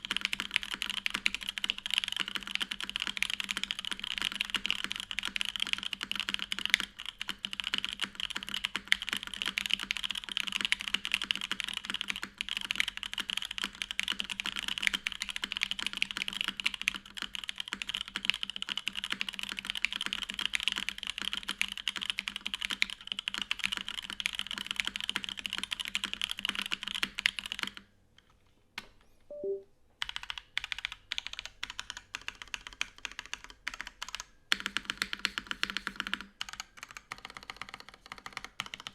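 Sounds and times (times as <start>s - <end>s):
mechanical keyboard typing: 0.0s - 27.8s, 29.3s - 38.9s.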